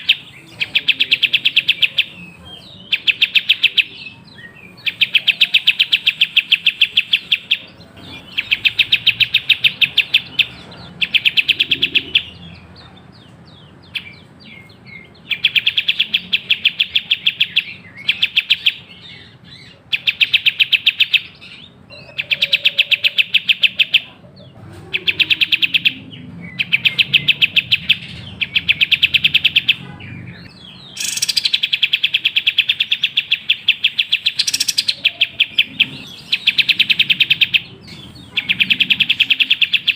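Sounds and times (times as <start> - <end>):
songbird rapid sharp chirping: 0.0 - 24.2, 24.8 - 39.9.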